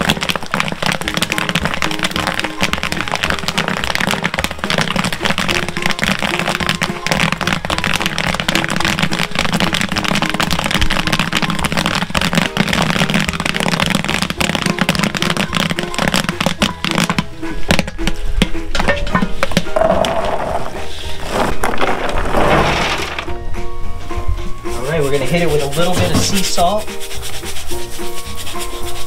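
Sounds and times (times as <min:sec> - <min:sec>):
popcorn popping: 0:00.0 - 0:23.4, 0:24.8 - 0:29.0.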